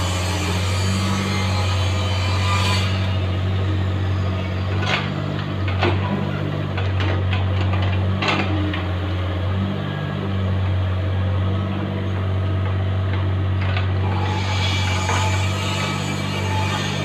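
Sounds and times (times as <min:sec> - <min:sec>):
excavator diesel engine: 0:00.0 - 0:02.1, 0:03.0 - 0:17.0.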